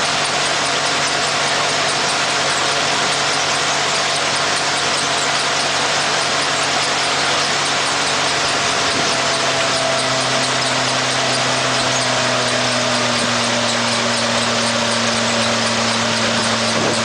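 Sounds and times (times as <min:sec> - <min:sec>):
engine running with steady hum: 0:00.0 - 0:17.0.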